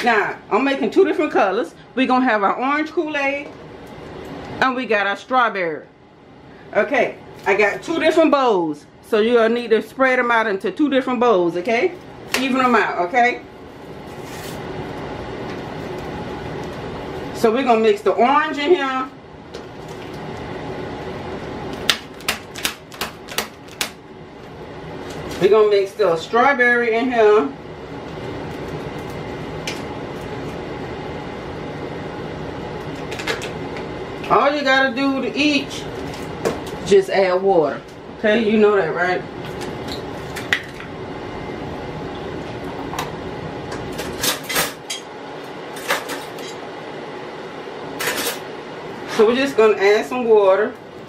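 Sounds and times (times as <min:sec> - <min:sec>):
low steady background hum: 0:00.0 - 0:51.0.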